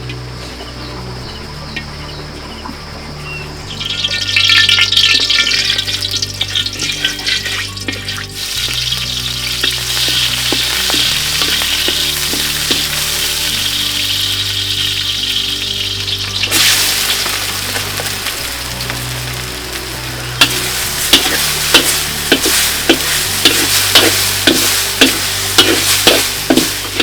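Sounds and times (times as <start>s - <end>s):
food sizzling in a pan: 3.7s - 27.0s
stirring clicks: 3.7s - 27.0s.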